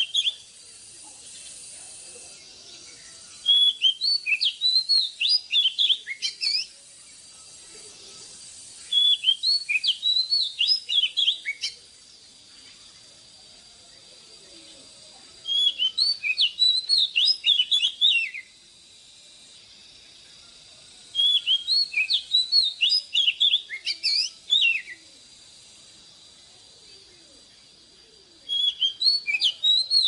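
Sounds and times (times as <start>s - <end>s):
bird singing whistled notes: 0.0s - 13.1s, 13.8s - 30.0s.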